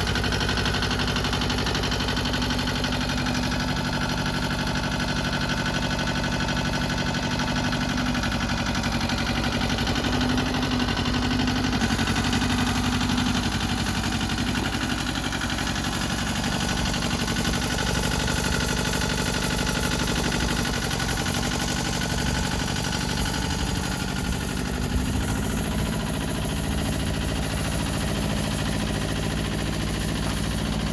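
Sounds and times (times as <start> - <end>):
diesel tractor engine idling: 0.0 - 30.9.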